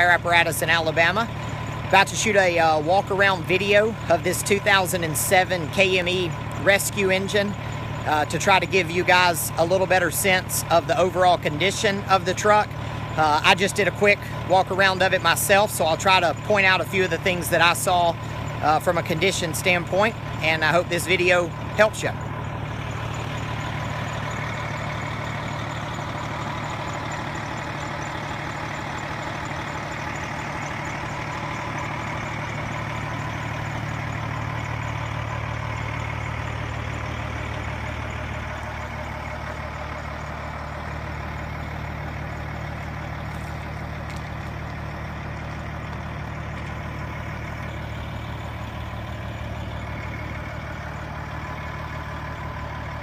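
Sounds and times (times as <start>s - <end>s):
diesel engine idling: 0.0s - 53.0s.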